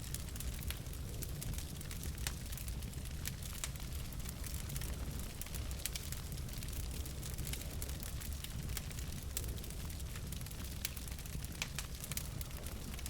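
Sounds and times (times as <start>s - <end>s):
logs crackling and popping: 0.0s - 13.0s
low fire rumble: 0.0s - 13.0s.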